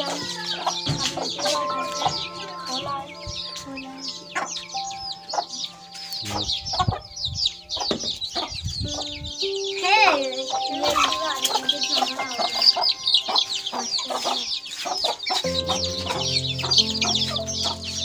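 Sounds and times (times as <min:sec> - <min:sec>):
background music of held notes: 0:00.0 - 0:18.0
chicks peeping: 0:00.0 - 0:18.0.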